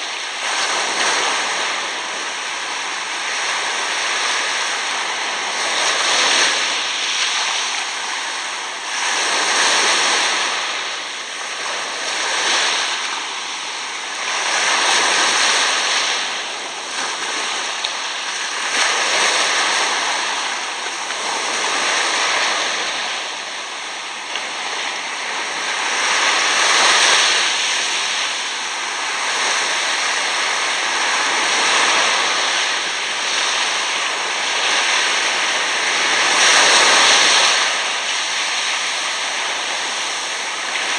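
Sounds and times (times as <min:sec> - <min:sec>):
sea water washing over sand: 0:00.0 - 0:40.9.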